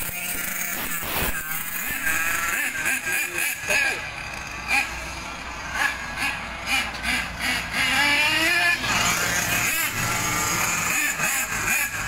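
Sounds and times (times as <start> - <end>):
passing motorcycles: 0.0 - 12.0
rc car motor whining: 0.0 - 12.0.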